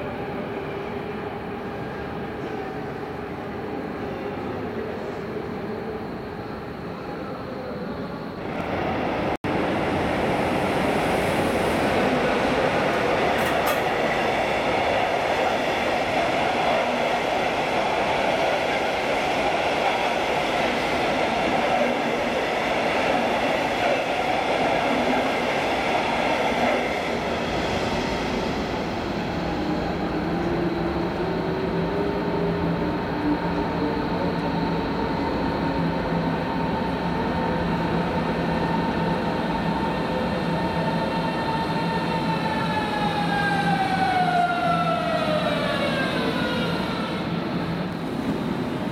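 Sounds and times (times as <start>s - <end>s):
train wheels rumbling on rail: 8.4s - 48.9s.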